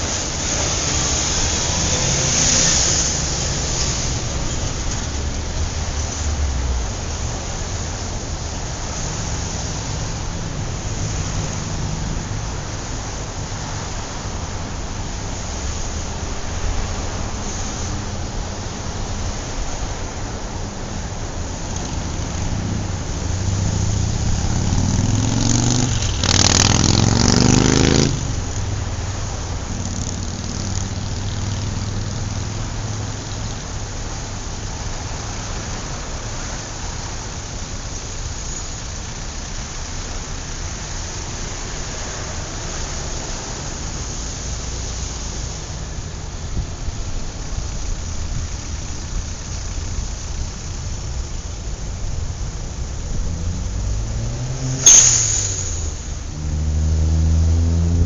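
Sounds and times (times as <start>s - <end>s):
passing cars rumble and hiss: 0.0s - 58.0s
vehicle engine climbing close by: 0.0s - 58.0s.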